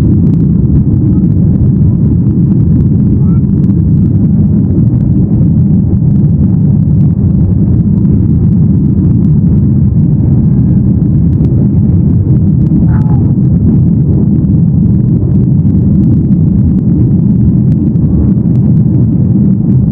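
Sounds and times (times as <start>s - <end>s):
airflow over fuselage: 0.0s - 19.9s
jet engine rumble: 0.0s - 19.9s.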